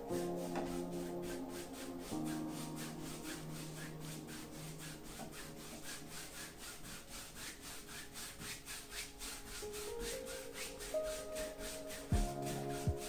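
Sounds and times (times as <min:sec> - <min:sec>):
paintbrush scrubbing on canvas: 0:00.0 - 0:13.0.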